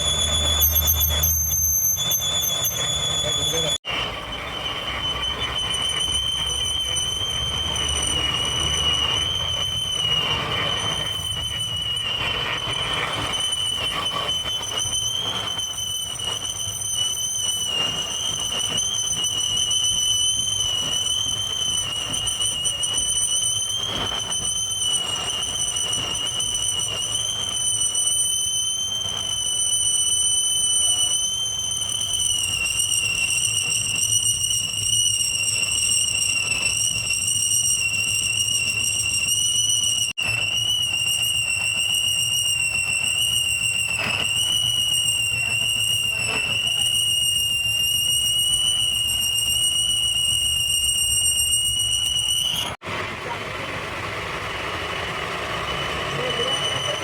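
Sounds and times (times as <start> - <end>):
high-pitched mechanical whine: 0.0 - 57.0.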